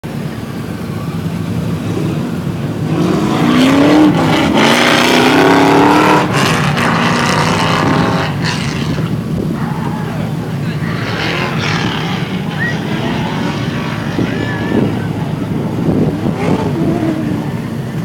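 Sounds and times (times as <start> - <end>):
race car engine revving: 0.1 - 18.0.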